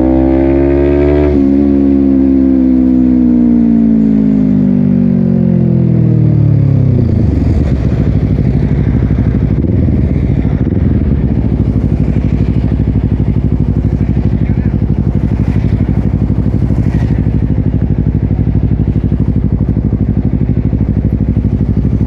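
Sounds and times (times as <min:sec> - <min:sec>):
motorcycle engine revs and idle: 0:00.0 - 0:22.0.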